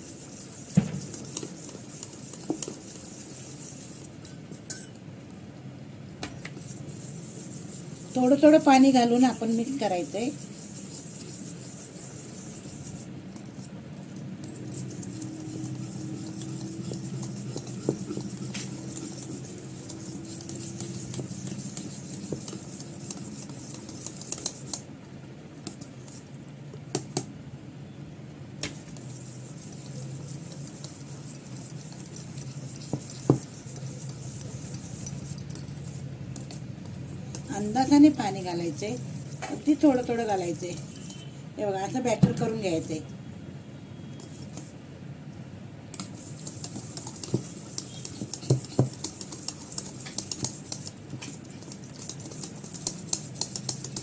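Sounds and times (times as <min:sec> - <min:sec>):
batter being stirred in a bowl: 0:00.0 - 0:27.3, 0:28.6 - 0:43.1, 0:44.2 - 0:44.8, 0:45.9 - 0:54.0.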